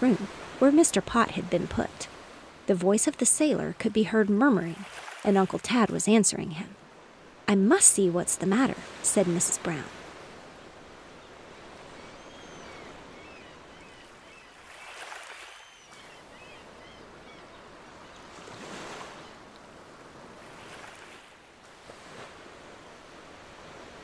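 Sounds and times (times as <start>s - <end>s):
ocean waves washing onto beach: 0.0s - 16.3s, 17.1s - 24.0s.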